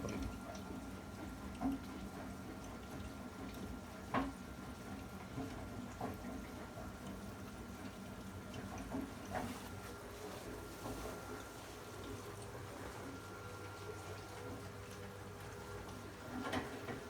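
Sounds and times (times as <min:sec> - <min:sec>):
steady boiler hum: 0:00.0 - 0:17.0.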